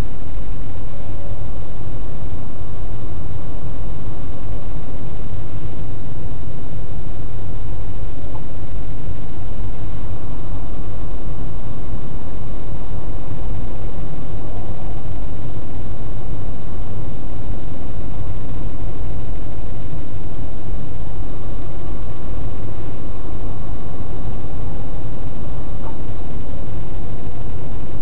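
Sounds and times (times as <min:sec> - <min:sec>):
road and engine rumble: 0:00.0 - 0:28.0.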